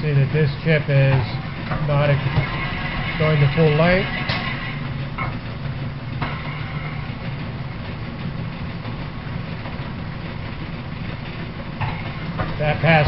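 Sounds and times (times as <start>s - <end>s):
metal planer humming: 0.0s - 13.0s.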